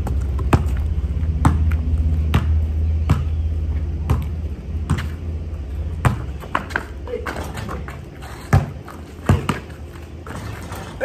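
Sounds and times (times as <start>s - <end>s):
basketball bouncing on concrete: 0.0s - 10.7s
steady low rumble: 0.0s - 11.0s.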